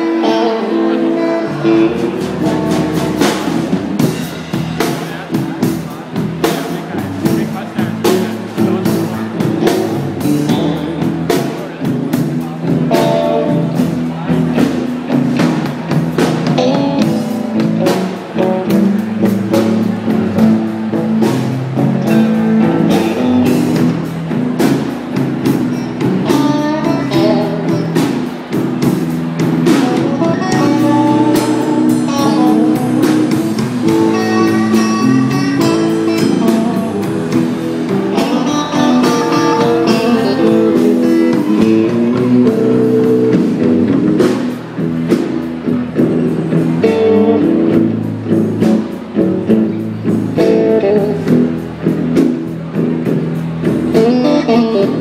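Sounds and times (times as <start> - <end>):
lead electric guitar lines: 0.0 - 55.0
live blues band playing: 0.0 - 55.0.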